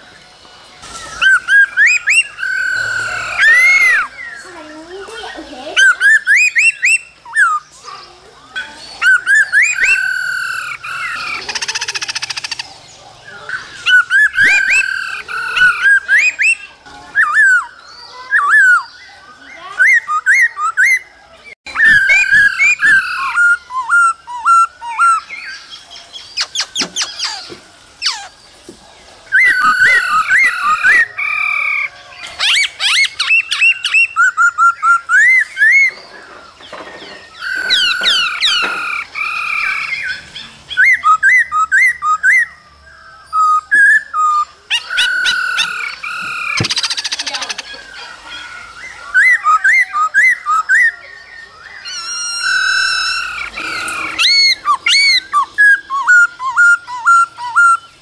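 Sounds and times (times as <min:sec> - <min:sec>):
bird whistling song: 0:00.8 - 0:12.7, 0:13.3 - 0:28.4, 0:29.2 - 0:58.0
bird chattering trills: 0:00.8 - 0:21.1, 0:21.7 - 0:28.6, 0:29.2 - 0:58.0.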